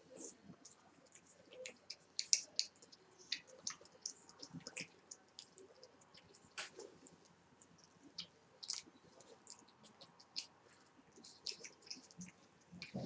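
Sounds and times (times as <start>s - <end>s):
cat licking and smacking: 0.5s - 13.0s.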